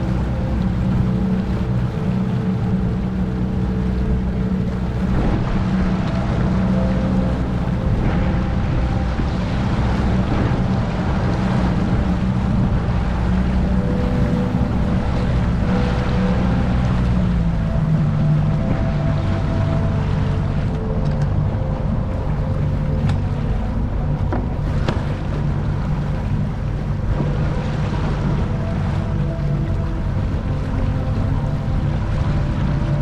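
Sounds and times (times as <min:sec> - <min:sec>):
motorboat engine humming: 0:00.0 - 0:33.0
rushing water noise: 0:00.0 - 0:33.0.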